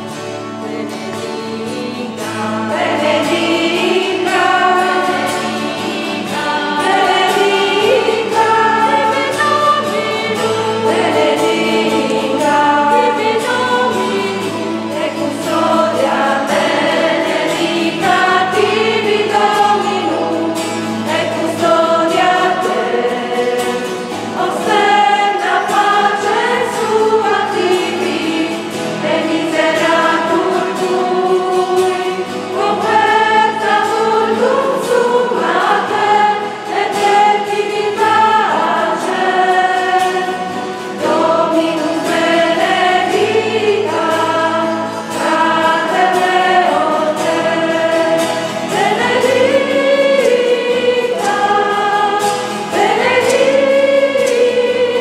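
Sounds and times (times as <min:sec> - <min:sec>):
acoustic guitar: 0:00.0 - 0:55.0
choir singing a hymn: 0:00.0 - 0:55.0.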